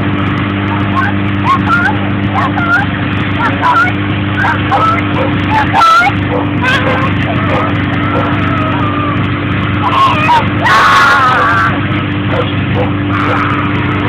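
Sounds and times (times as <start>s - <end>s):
snowmobile engine running: 0.0s - 14.0s
high voices: 0.2s - 14.0s.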